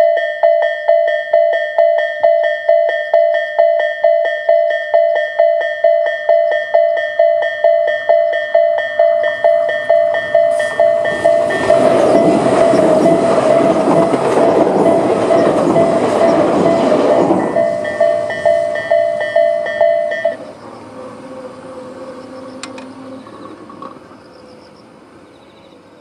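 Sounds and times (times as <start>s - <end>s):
level crossing warning bell: 0.0s - 23.5s
electric train passing: 0.0s - 26.0s.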